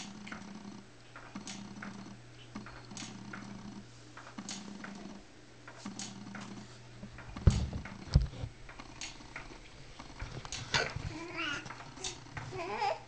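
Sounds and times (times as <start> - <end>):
baby swing motor hum: 0.0 - 13.0.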